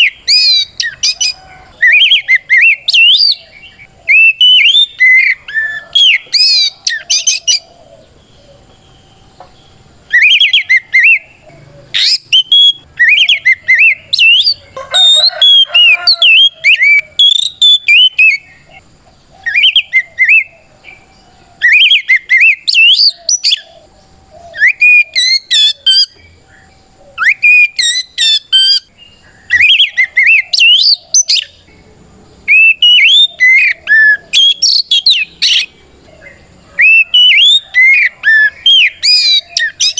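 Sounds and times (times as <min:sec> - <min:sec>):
bird singing whistles: 0:00.0 - 0:07.6, 0:10.1 - 0:18.7, 0:19.4 - 0:20.6, 0:21.6 - 0:23.8, 0:24.4 - 0:28.9, 0:29.5 - 0:31.6, 0:32.5 - 0:35.7, 0:36.8 - 0:39.9.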